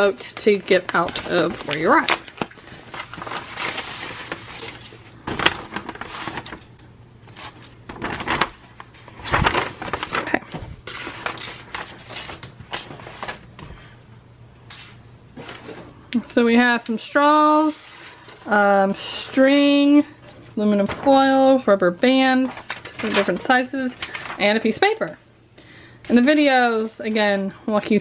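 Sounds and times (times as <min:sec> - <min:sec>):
paper and plastic crinkling: 0:00.0 - 0:14.0, 0:14.7 - 0:15.9, 0:16.6 - 0:25.2, 0:26.0 - 0:28.0.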